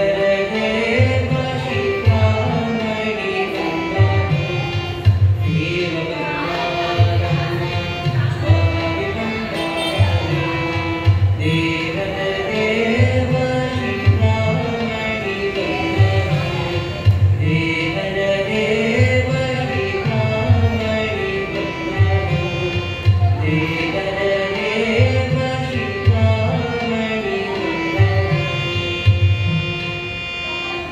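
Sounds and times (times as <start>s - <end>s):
men singing devotional song: 0.0s - 29.6s
tabla beat: 0.0s - 30.9s.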